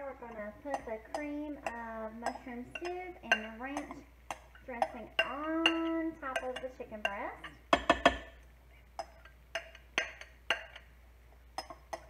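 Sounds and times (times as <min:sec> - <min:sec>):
spoon clinking against glass bowl: 0:00.1 - 0:08.3, 0:09.0 - 0:10.9, 0:11.5 - 0:12.0.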